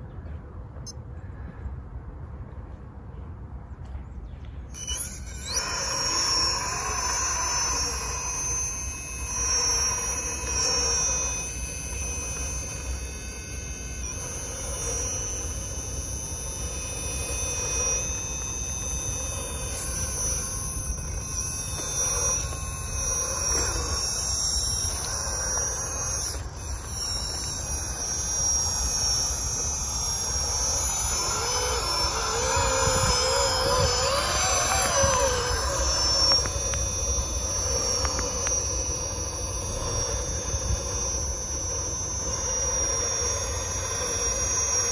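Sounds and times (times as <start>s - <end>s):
electric toy truck motor whining: 4.6s - 44.9s.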